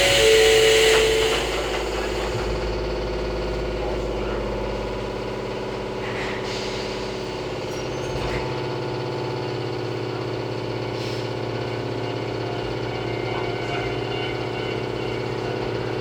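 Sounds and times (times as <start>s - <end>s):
train running gear hum and rumble: 0.0s - 16.0s.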